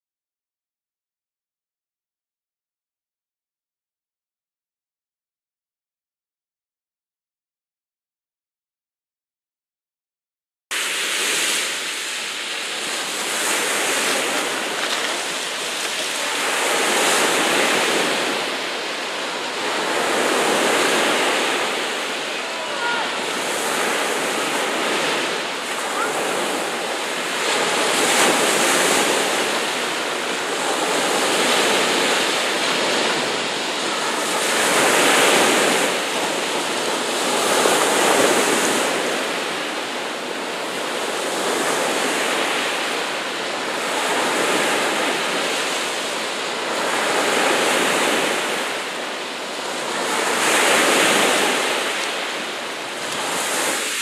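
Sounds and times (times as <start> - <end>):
sea waves washing: 10.7 - 54.0.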